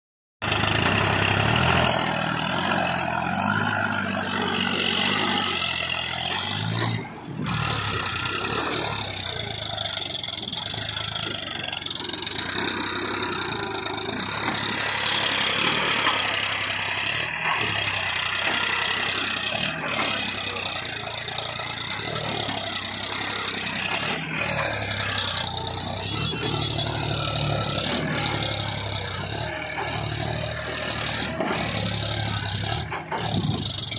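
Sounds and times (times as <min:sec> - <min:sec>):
tractor diesel engine under load: 0:00.4 - 0:33.9.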